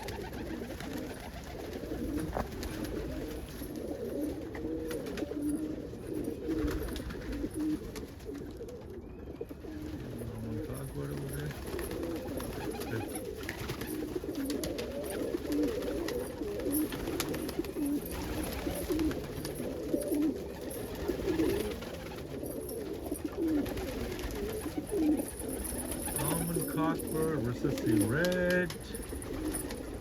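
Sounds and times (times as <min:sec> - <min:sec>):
pigeons cooing: 0:00.0 - 0:30.0.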